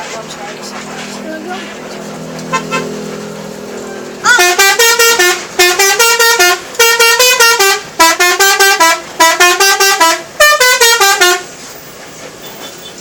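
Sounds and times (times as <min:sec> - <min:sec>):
multi-tone bus horn playing a tune: 0:00.5 - 0:13.0.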